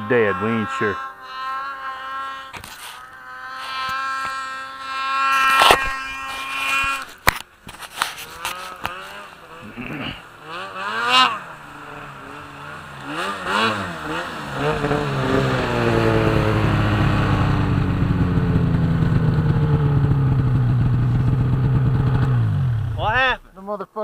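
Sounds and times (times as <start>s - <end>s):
snowmobile engine revving: 0.0s - 23.6s.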